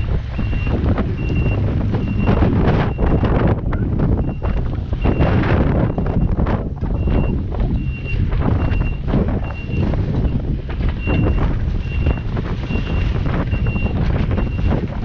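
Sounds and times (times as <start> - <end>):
excavator engine running: 0.0 - 15.0
wind buffeting microphone: 0.0 - 15.0
excavator travel alarm beeping: 0.3 - 14.9.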